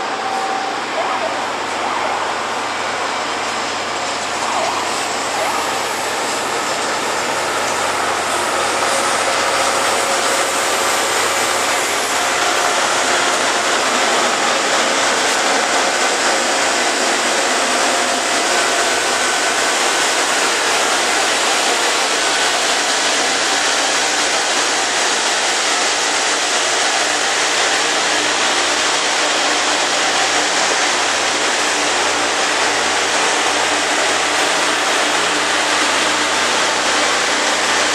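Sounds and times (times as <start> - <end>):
rail grinder train grinding: 0.0 - 37.9.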